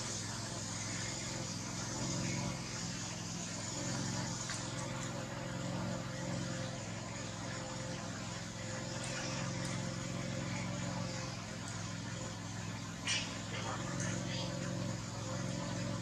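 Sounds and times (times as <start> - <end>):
constant hiss: 0.0 - 16.0
low motor hum: 0.0 - 16.0.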